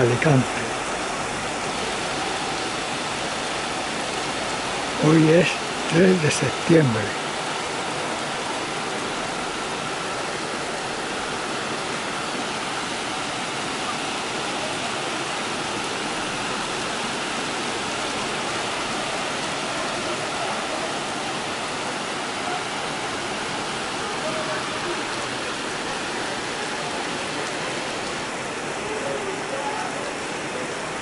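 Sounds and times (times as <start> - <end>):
heavy rain on rooftops: 0.0 - 31.0.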